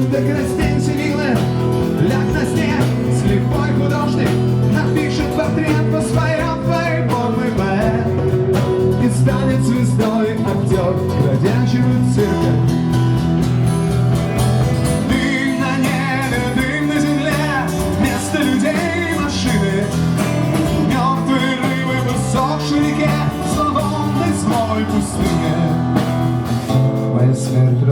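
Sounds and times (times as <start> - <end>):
rock band instrumental: 0.0 - 27.9
wavering lead guitar melody: 0.0 - 27.9.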